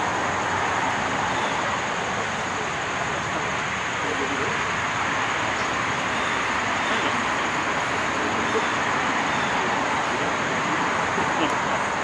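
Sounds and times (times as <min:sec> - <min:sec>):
rushing outdoor background noise: 0:00.0 - 0:12.0
thin high steady tone: 0:00.0 - 0:12.0.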